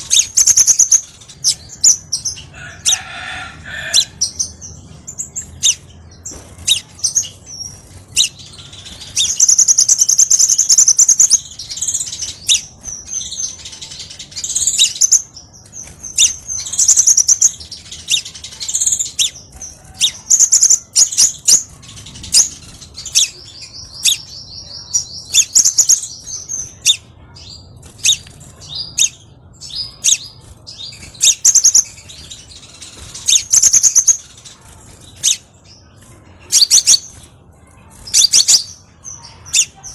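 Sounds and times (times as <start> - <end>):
bird singing high-pitched trills: 0.0 - 3.0, 3.7 - 39.9
sharp bird chips: 0.0 - 39.9.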